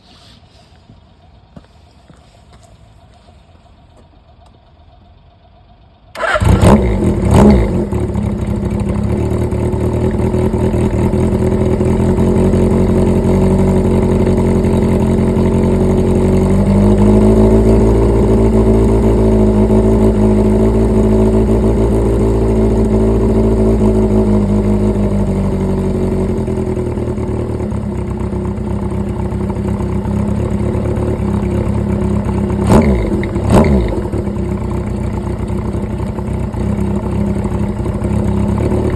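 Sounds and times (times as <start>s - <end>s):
motorcycle engine starting and idling: 0.9s - 38.9s.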